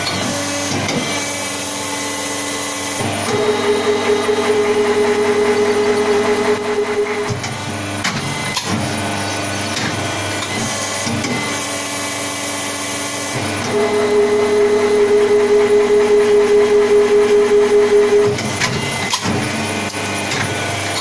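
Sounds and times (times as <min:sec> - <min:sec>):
moulding machine humming: 0:00.0 - 0:21.0.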